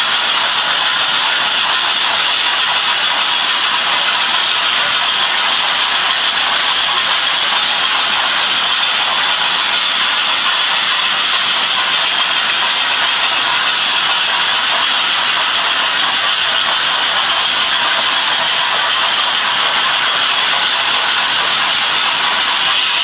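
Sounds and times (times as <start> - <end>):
model trains whirring on track: 0.0 - 23.0.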